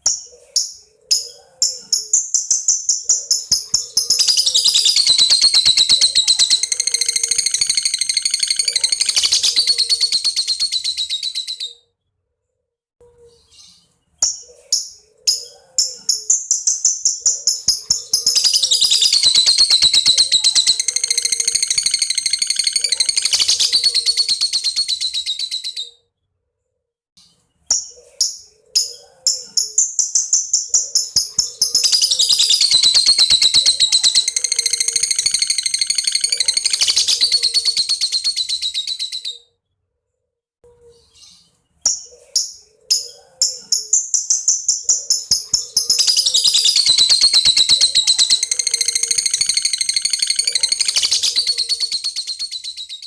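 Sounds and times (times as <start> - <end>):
lovebird chirping and trilling: 0.0 - 11.9, 13.3 - 26.0, 27.7 - 39.6, 40.9 - 53.0.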